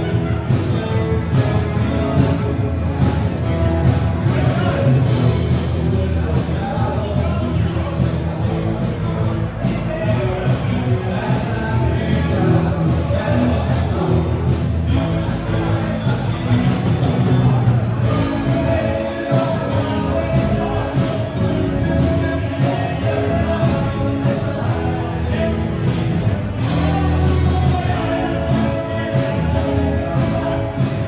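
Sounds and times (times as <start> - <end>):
live rock band playing: 0.0 - 31.0
steady drum beat: 1.4 - 31.0.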